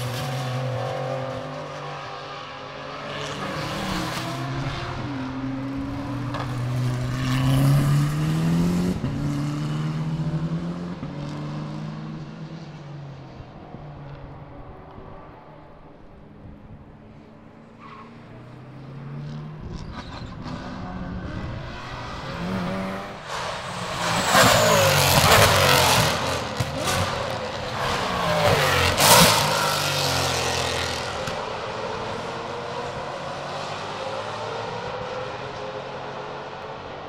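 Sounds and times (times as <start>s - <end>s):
race cars passing at speed: 0.0s - 37.0s.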